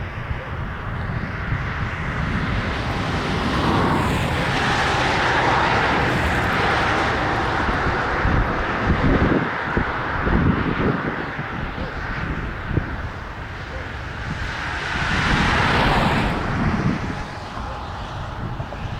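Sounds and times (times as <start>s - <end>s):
train passing rumble: 0.0s - 18.9s.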